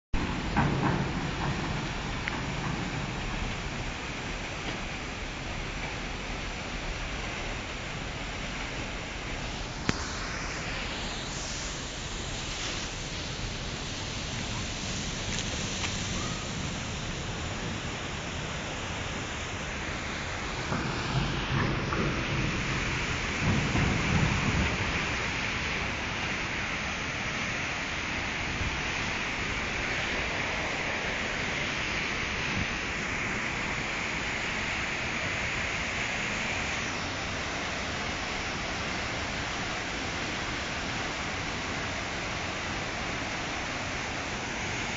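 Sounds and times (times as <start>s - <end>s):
waterfall rushing roar: 0.2s - 44.9s.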